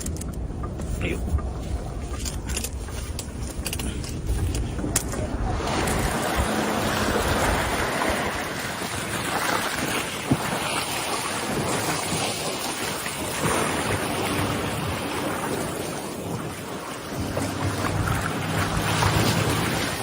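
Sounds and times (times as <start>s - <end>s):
choppy water washing: 0.0s - 20.0s
wind on microphone: 0.0s - 20.0s.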